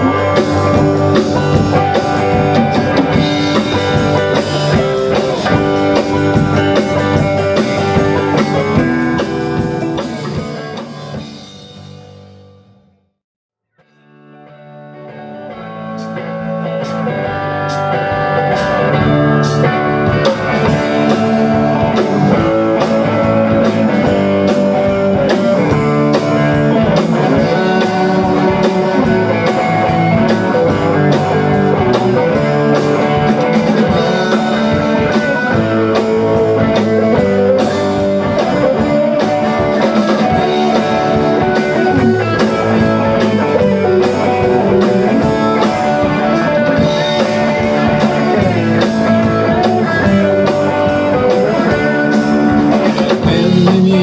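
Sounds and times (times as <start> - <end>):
drum kit beat: 0.0 - 12.6, 15.8 - 54.0
electric guitars: 0.0 - 12.6, 13.8 - 54.0
electric bass: 0.0 - 13.0, 14.1 - 54.0.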